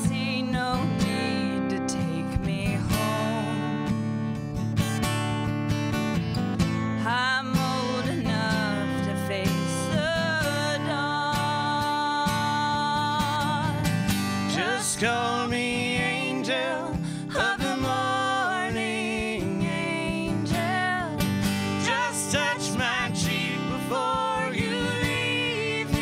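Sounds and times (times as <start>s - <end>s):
woman singing with vibrato: 0.0s - 3.8s, 7.0s - 26.0s
strummed acoustic guitar: 0.0s - 26.0s.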